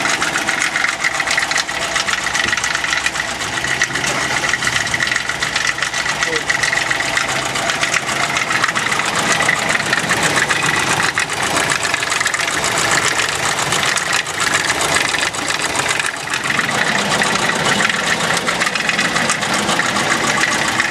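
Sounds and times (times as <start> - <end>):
car engine idling with knocking: 0.0 - 20.9.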